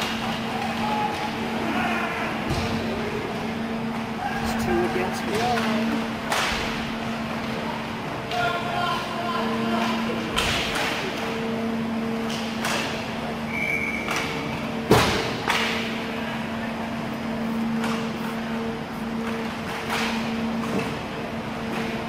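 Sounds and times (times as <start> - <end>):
steady hall hum: 0.0 - 22.0.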